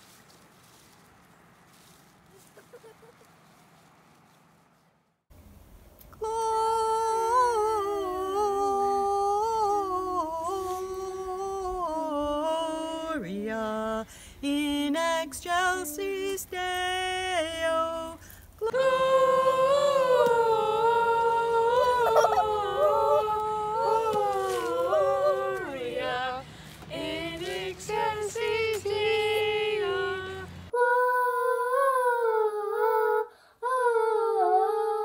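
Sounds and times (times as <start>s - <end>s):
group of voices singing: 6.2s - 35.0s
woman singing unaccompanied: 6.2s - 35.0s.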